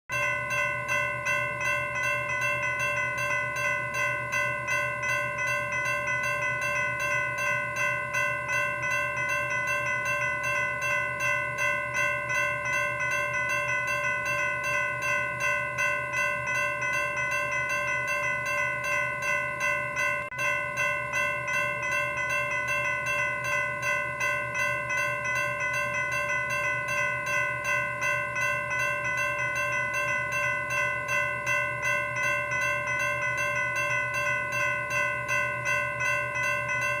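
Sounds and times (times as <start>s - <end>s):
crossing warning bell ringing: 0.1s - 37.0s.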